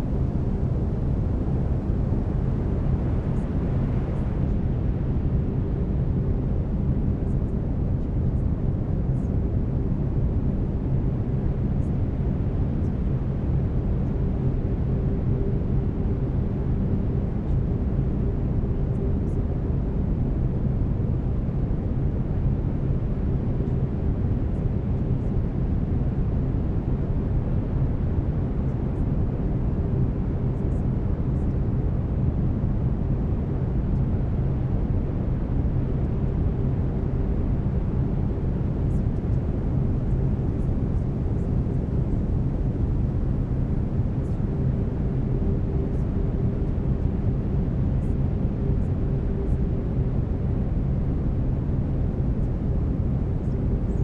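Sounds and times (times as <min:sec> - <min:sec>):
deep steady brown noise hiss: 0:00.0 - 0:54.0.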